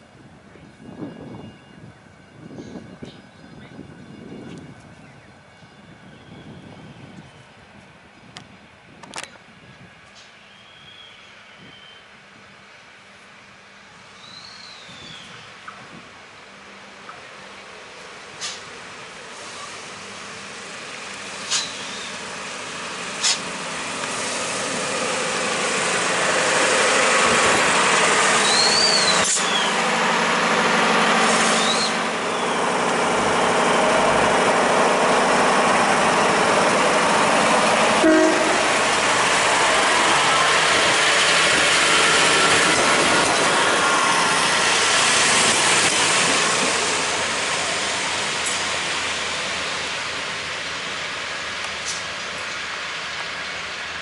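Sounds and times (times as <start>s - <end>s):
diesel railcar engine: 0.0s - 54.0s.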